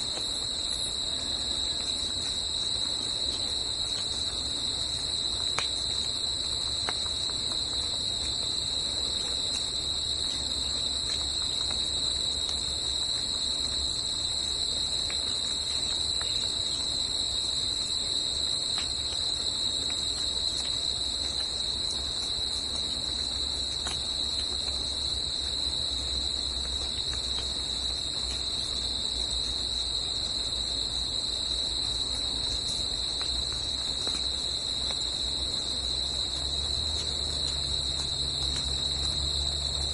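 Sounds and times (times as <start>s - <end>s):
insects trilling: 0.0s - 39.9s
faint ticks: 3.3s - 13.9s, 17.7s - 39.9s.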